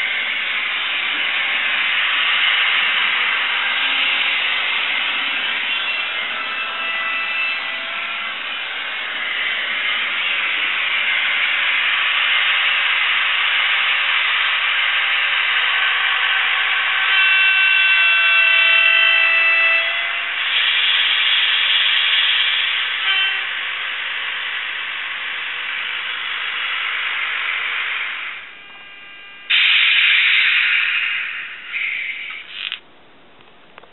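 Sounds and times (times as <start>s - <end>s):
electric train hiss and hum: 0.0s - 33.9s.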